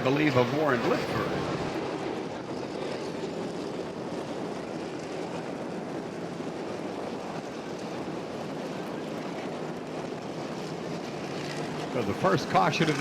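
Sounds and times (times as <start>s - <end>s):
race car engines droning: 0.0s - 5.1s, 7.0s - 13.0s.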